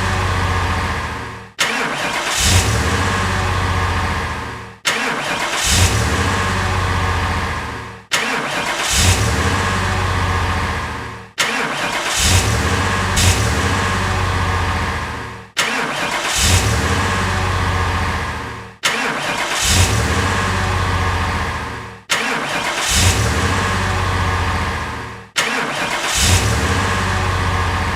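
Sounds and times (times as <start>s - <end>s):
car engine starting: 0.0s - 27.9s.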